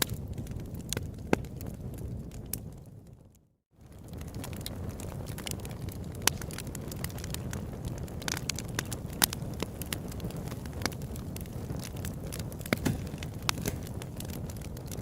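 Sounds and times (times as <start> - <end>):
campfire rumbling: 0.0 - 15.0
fire crackling and popping: 0.0 - 15.0.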